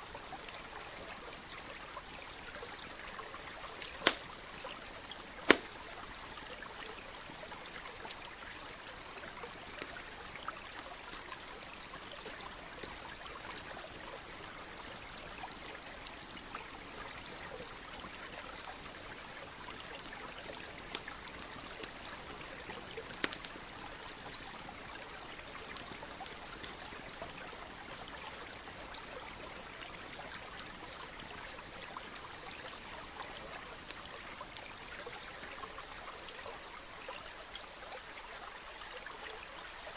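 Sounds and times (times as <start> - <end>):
campfire crackling: 0.0 - 37.8
stream running: 0.0 - 39.9.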